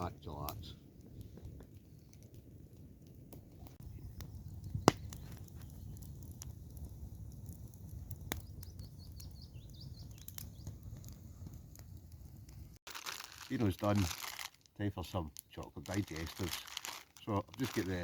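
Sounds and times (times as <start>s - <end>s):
campfire crackling: 0.0s - 18.0s
fire popping: 0.0s - 18.0s.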